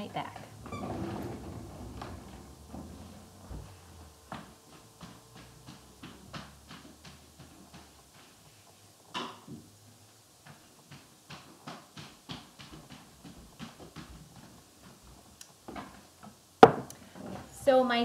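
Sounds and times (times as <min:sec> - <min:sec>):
footsteps crossing room: 0:00.0 - 0:17.7.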